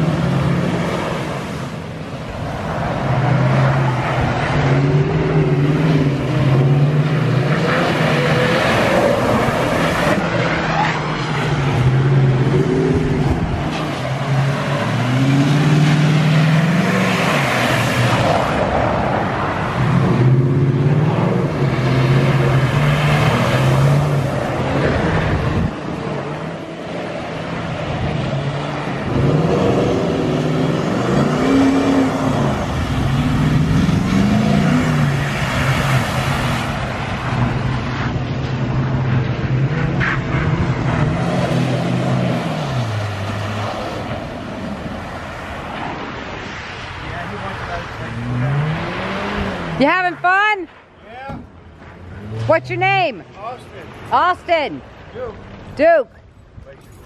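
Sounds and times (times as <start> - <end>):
truck engine revving: 0.0 - 50.5, 51.2 - 55.3.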